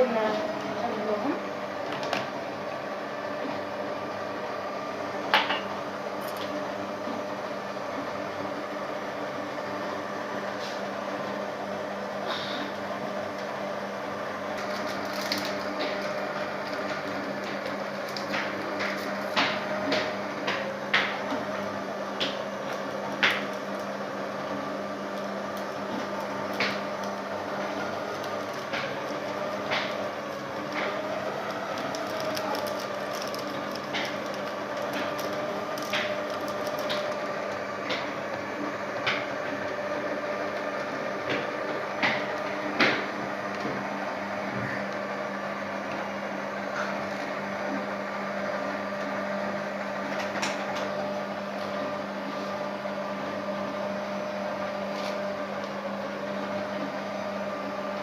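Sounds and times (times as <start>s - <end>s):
electric mixer motor running: 0.0s - 58.0s.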